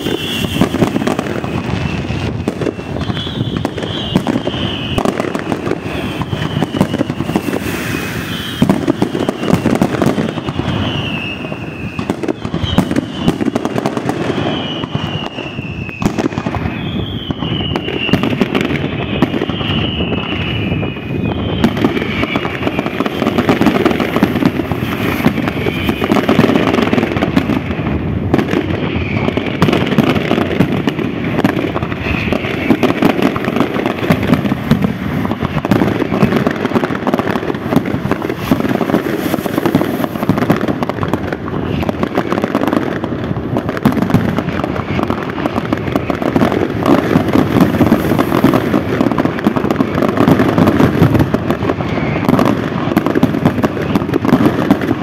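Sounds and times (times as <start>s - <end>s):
falling firework whistles: 0.0s - 55.0s
firework shells bursting: 0.0s - 55.0s
fireworks crackling: 0.0s - 55.0s.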